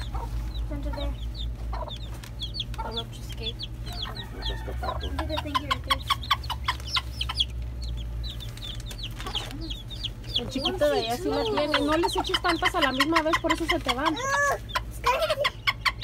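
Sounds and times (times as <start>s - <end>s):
baby chicks peeping: 0.0s - 16.0s
hen clucking: 0.0s - 16.0s.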